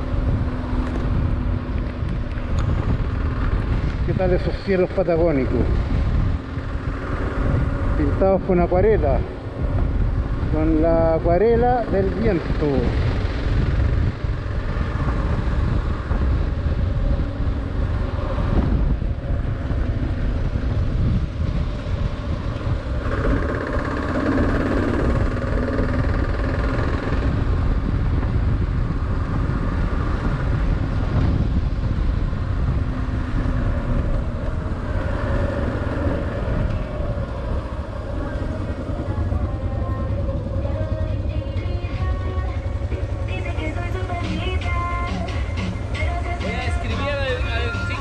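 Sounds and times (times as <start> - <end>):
motorcycle engine running: 0.0 - 48.0
wind buffeting microphone: 0.0 - 48.0.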